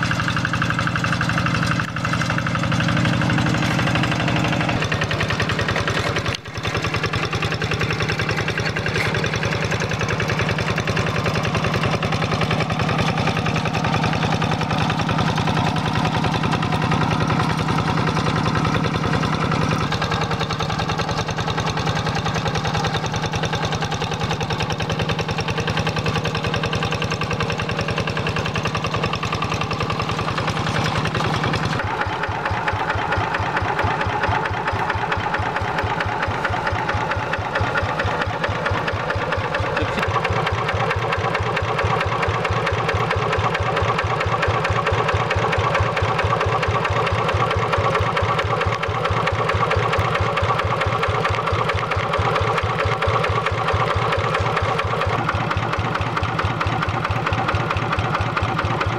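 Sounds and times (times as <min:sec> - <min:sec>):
single-cylinder diesel engine knocking: 0:00.0 - 0:58.9.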